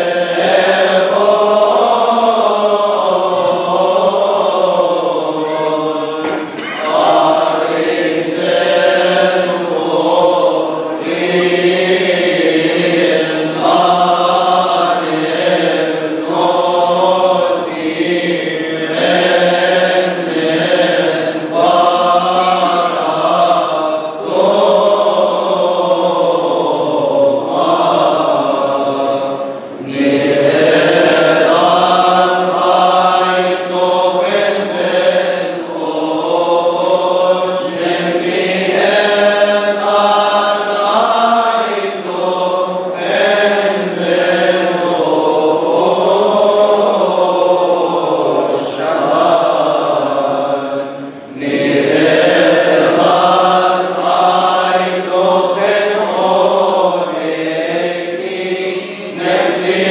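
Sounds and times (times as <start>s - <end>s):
men chanting: 0.0s - 59.9s.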